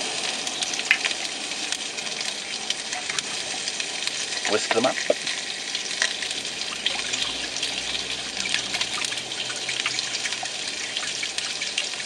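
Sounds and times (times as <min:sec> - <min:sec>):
bacon sizzling in a pan: 0:00.0 - 0:12.0
small crackles: 0:00.0 - 0:12.0.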